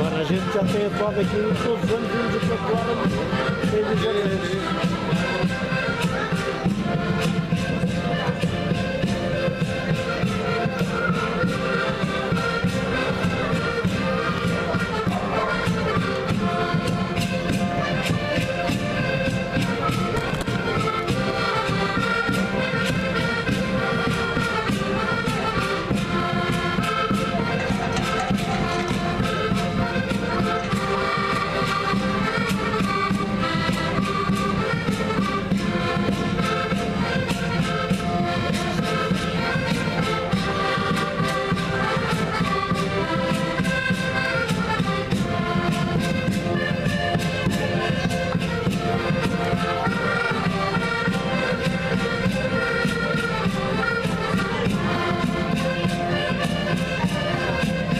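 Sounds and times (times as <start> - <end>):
accordion ensemble playing: 0.0 - 57.9.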